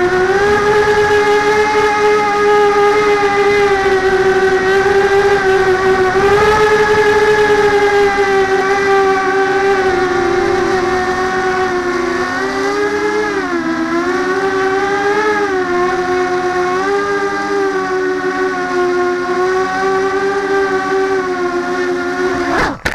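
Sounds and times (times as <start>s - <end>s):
quadcopter motors whining: 0.0s - 22.9s.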